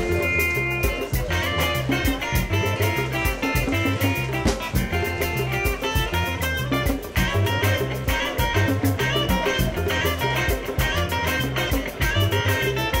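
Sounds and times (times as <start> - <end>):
upbeat band music: 0.0 - 13.0.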